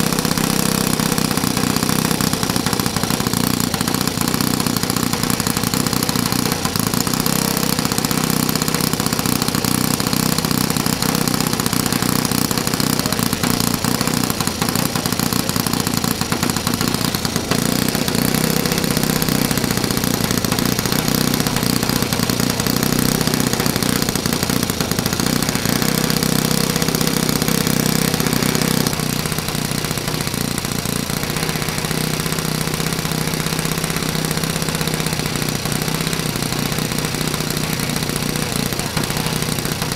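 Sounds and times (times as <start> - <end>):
model glow engine and propeller running: 0.0 - 39.9.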